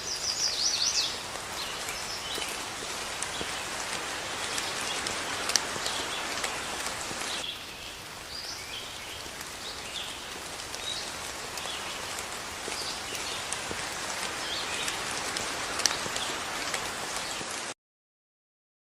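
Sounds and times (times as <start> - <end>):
birds chirping: 0.0 - 17.6
sharp water drips: 0.0 - 17.7
steady rain falling: 0.0 - 17.8.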